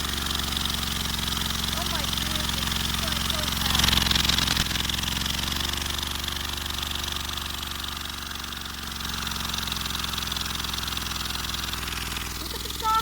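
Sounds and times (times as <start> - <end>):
small engine mechanical buzz: 0.0 - 13.0.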